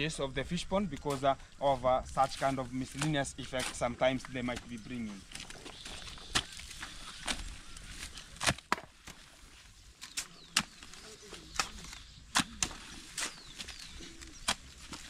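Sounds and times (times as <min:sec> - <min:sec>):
hand hoes chopping into soil: 0:02.2 - 0:15.0.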